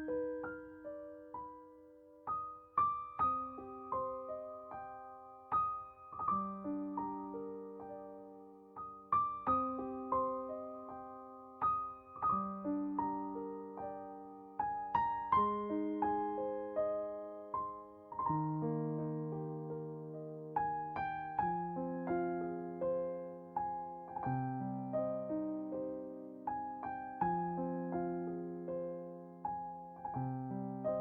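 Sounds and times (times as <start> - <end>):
soft piano music: 0.0 - 31.0.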